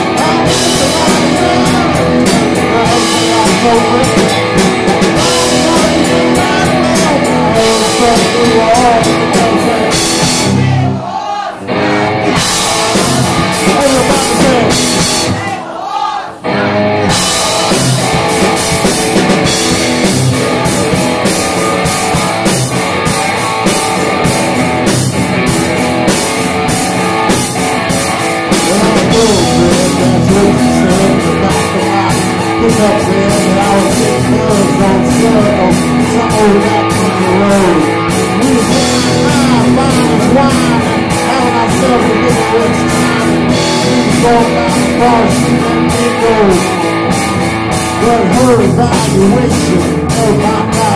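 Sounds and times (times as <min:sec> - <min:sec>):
drum kit: 0:00.0 - 0:15.8, 0:16.4 - 0:50.9
man singing: 0:00.0 - 0:22.5, 0:28.5 - 0:50.9
guitar: 0:00.0 - 0:50.9.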